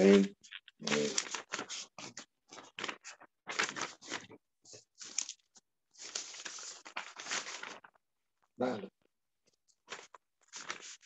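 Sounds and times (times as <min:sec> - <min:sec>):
paper rustling: 0:00.0 - 0:08.1, 0:09.4 - 0:11.0.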